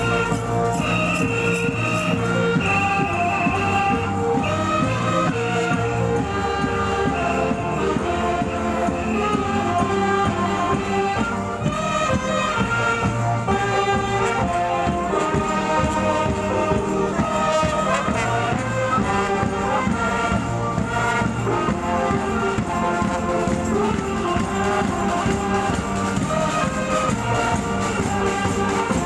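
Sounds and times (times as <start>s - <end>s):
band playing a melody: 0.0s - 29.0s
percussion beat: 0.0s - 29.0s.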